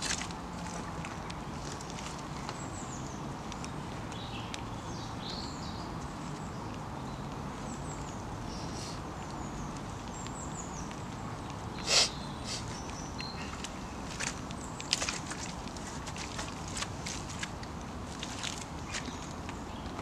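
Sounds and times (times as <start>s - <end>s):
small birds chirping: 0.0s - 20.0s
steady outdoor hiss: 0.0s - 20.0s.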